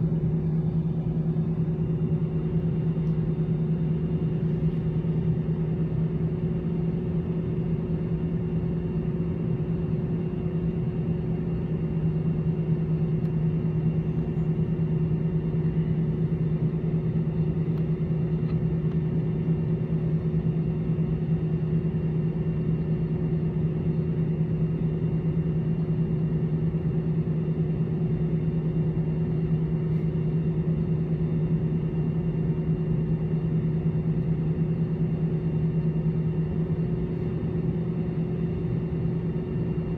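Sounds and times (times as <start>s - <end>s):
jet engines idling in cabin: 0.0s - 39.9s.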